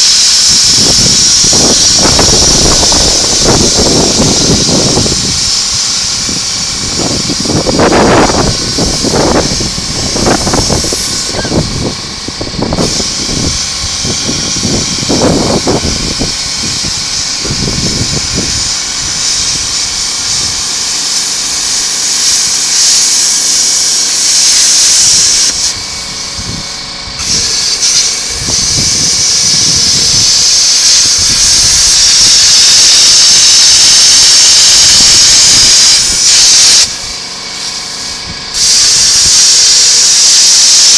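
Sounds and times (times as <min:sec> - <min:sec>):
angle grinder cutting steel: 0:00.0 - 0:40.9.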